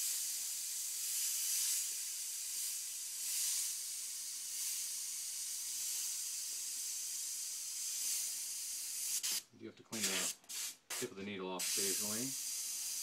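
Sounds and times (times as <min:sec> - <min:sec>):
airbrush hissing: 0:00.0 - 0:13.0.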